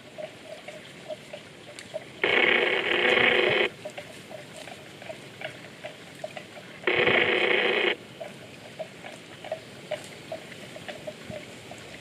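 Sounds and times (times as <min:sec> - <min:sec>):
buffalo cropping grass: 0:00.0 - 0:12.0.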